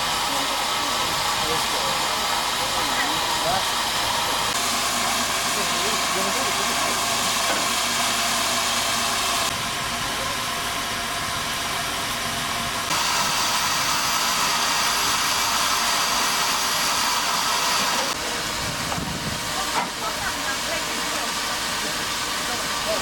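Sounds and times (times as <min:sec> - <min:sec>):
steam hissing from locomotive: 0:00.0 - 0:23.0.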